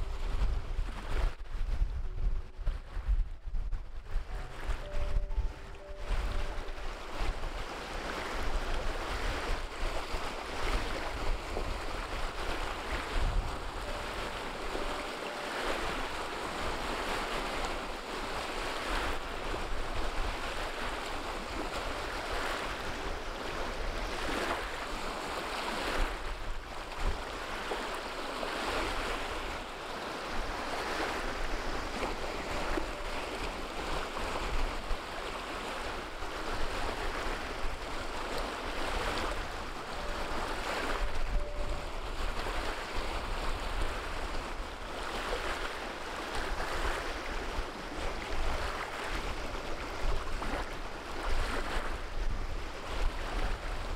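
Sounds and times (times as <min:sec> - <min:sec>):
wind rumbling on microphone: 0:00.0 - 0:53.9.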